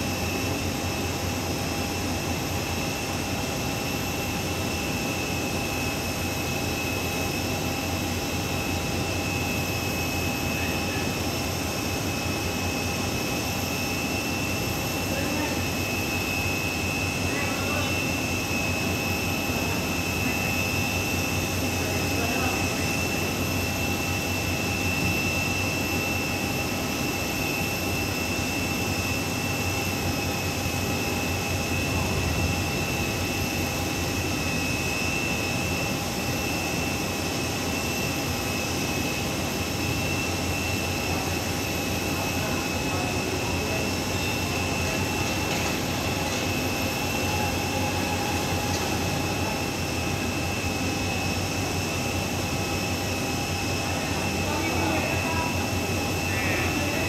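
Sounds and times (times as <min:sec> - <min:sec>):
jet engine high whine: 0:00.0 - 0:57.0.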